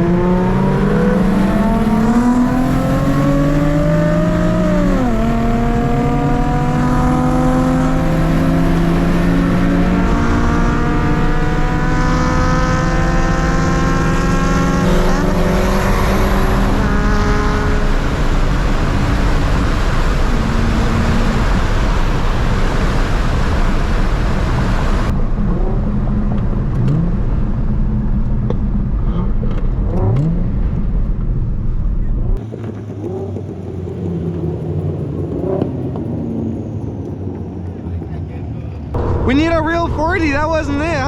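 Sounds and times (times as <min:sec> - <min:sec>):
car engines accelerating hard: 0:00.0 - 0:41.0
road and wind noise: 0:00.0 - 0:41.0.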